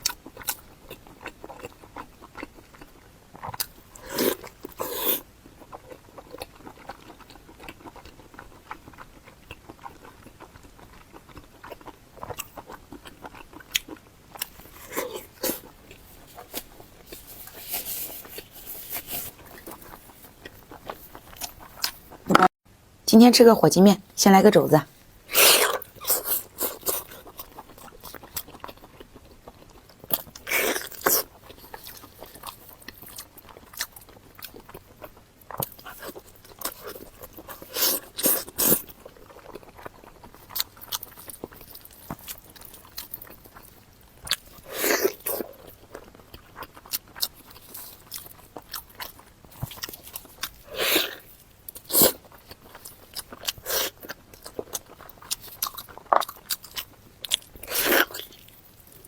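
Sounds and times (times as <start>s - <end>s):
chewing and biting: 0.0s - 22.5s, 25.3s - 59.0s.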